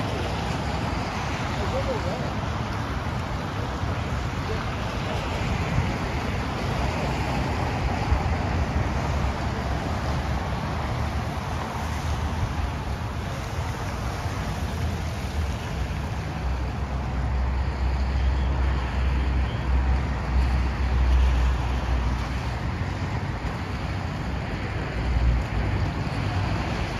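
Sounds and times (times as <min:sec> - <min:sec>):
traffic on wet roads: 0:00.0 - 0:26.9.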